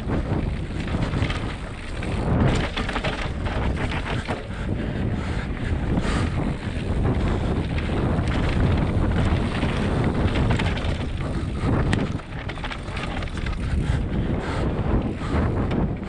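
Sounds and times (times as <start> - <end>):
tyres rumbling on dirt: 0.0 - 15.2
bike rattling over bumps: 0.0 - 16.0
wind buffeting microphone: 0.0 - 16.0.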